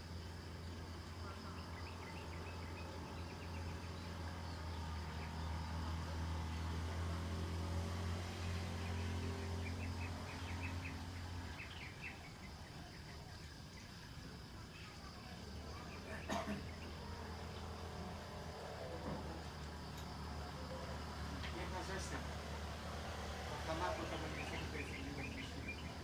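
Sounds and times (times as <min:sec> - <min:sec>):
birds chirping: 0:00.1 - 0:14.9, 0:15.6 - 0:26.0.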